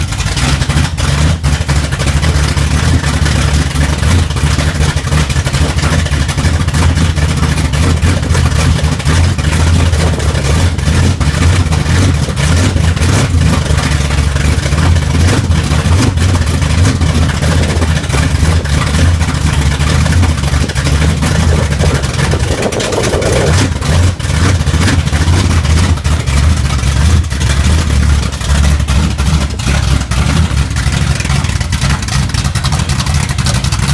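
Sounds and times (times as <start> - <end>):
loud car engine idling: 0.0 - 33.9.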